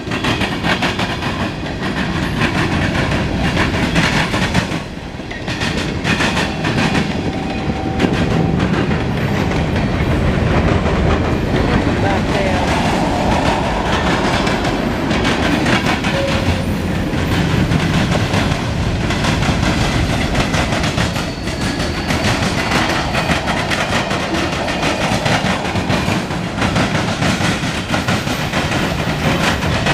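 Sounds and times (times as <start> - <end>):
wheels clacking over rail joints: 0.0 - 13.9, 14.5 - 29.9
freight train cars rolling past: 0.0 - 29.9.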